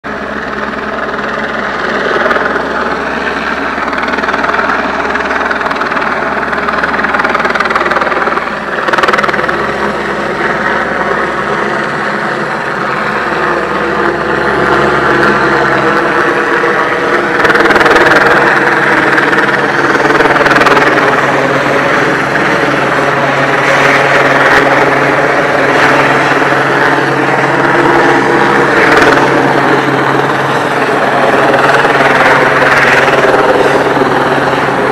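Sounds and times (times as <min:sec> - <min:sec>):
helicopter flying low overhead: 0:00.0 - 0:34.9.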